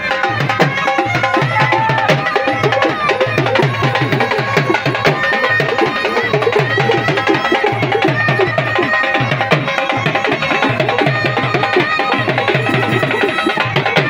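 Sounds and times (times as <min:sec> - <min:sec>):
drum beaten in quick rhythm: 0:00.0 - 0:14.0
wind instrument melody: 0:00.0 - 0:14.0.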